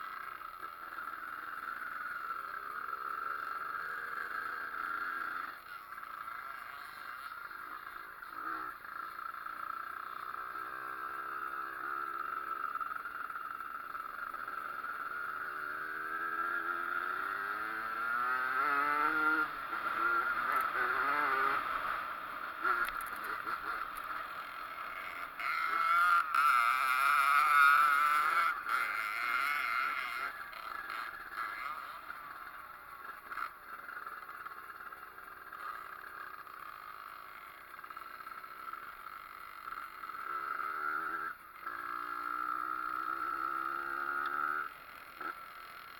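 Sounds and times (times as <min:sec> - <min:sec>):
pit bike engine revving: 0:00.0 - 0:45.9.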